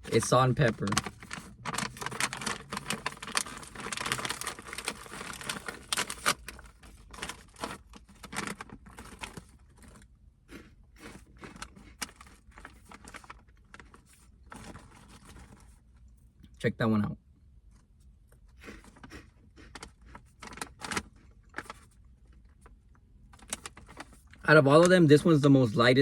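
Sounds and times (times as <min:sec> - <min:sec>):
plastic snack bag crinkling: 0:00.0 - 0:15.7, 0:18.6 - 0:25.3.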